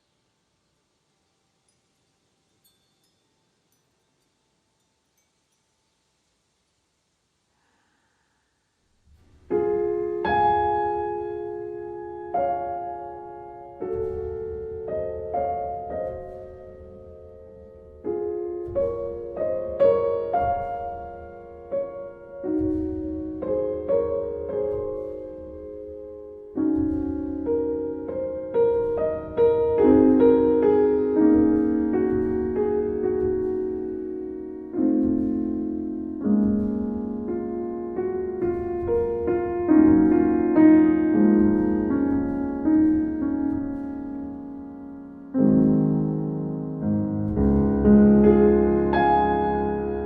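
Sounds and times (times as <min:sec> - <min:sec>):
piano music: 0:09.4 - 0:50.0.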